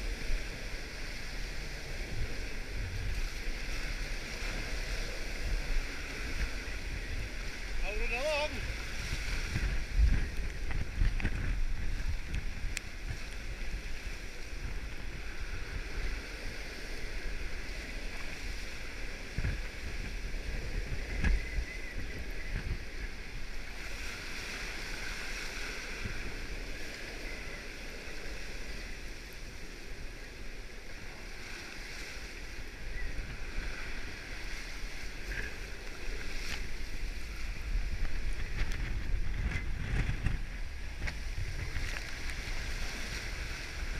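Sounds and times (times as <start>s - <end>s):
strong wind buffeting microphone: 0.0s - 43.9s
water rushing along hull: 0.0s - 43.9s.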